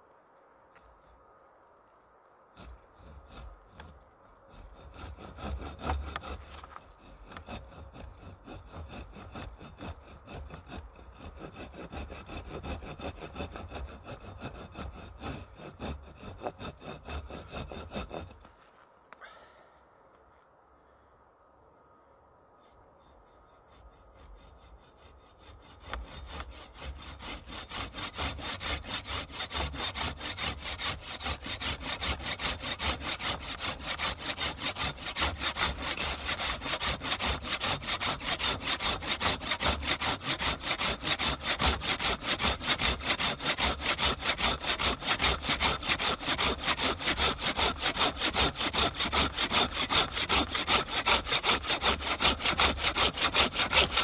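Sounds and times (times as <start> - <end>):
hand saw cutting wood: 2.6 - 18.5, 23.0 - 54.0.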